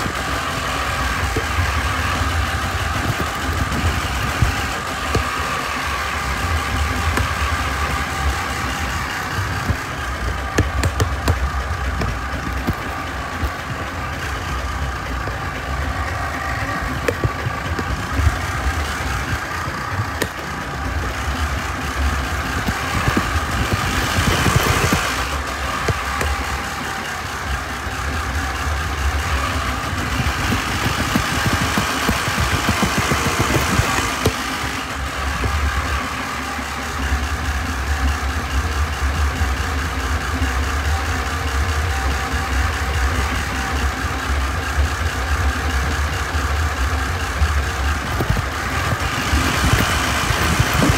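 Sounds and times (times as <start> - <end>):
sharp clicks and knocks: 0.0 - 37.2, 42.2 - 50.9
tractor engine running: 0.0 - 50.9.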